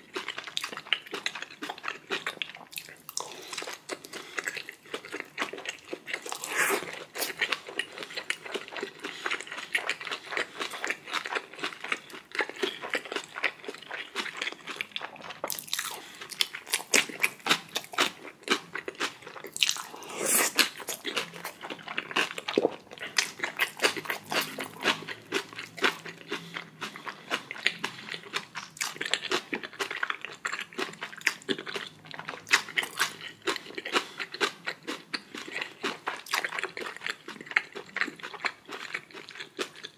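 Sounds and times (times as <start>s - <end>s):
person biting and chewing: 0.2s - 39.9s.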